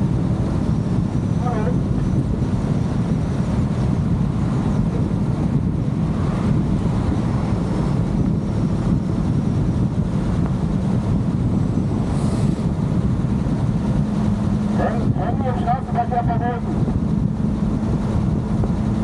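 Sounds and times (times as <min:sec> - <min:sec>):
car driving rumble: 0:00.0 - 0:19.0
wind buffeting microphone: 0:00.0 - 0:19.0.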